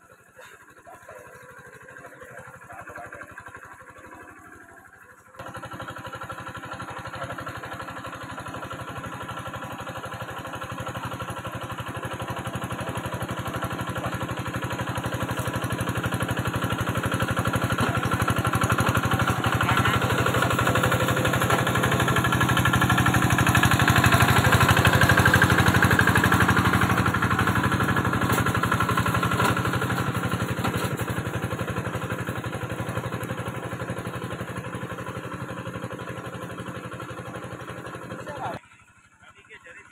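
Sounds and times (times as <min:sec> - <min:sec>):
small engine running under load: 0:00.0 - 0:39.9.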